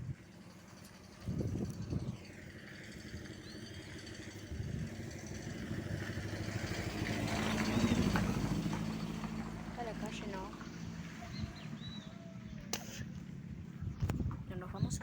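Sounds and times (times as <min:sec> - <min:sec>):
vehicle engine approaching: 0:00.0 - 0:15.0.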